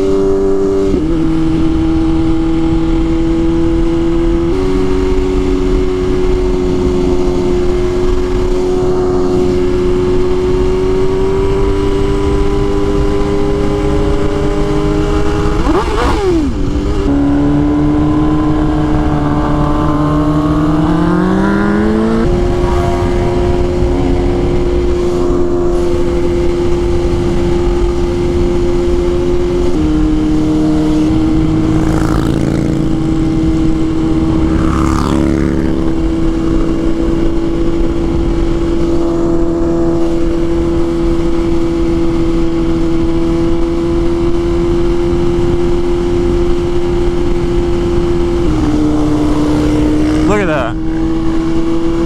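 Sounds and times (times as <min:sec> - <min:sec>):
motorcycle engine running high: 0:00.0 - 0:52.0
wind rush: 0:00.0 - 0:52.0.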